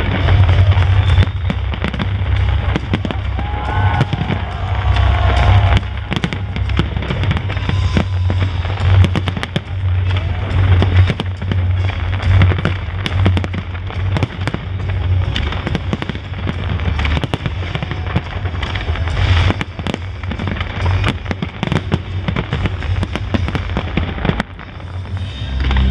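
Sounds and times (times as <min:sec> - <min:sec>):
fireworks bangs: 0:00.0 - 0:25.9
fireworks crackling: 0:00.0 - 0:25.9
low rumble: 0:00.0 - 0:25.9.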